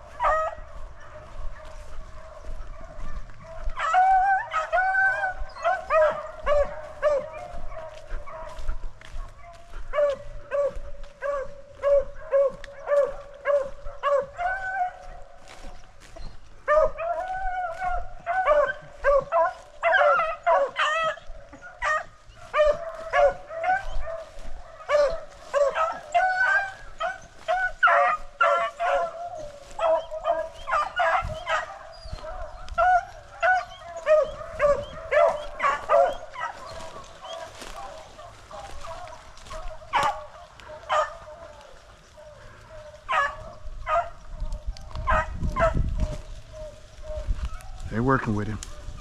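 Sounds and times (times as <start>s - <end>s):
beagles baying: 0.0s - 49.0s.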